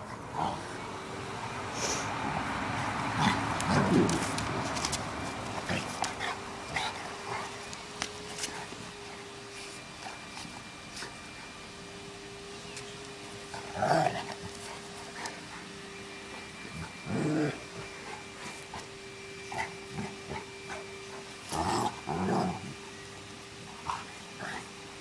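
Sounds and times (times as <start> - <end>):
dogs growling: 0.0 - 1.1, 1.9 - 11.4, 13.4 - 22.8.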